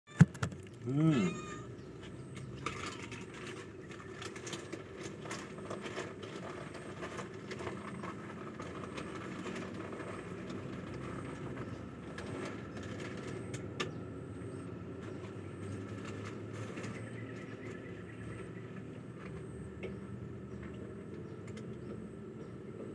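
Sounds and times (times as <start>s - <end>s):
steady mechanical hum: 0.1s - 22.9s.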